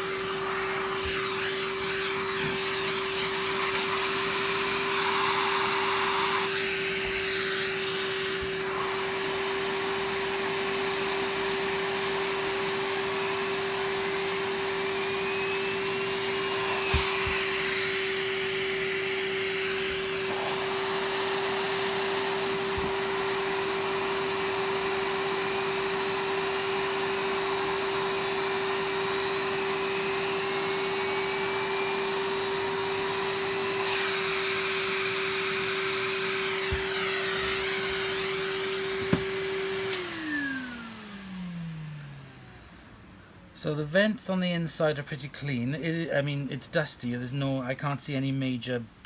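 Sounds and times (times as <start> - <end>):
vacuum cleaner motor running: 0.0 - 43.2.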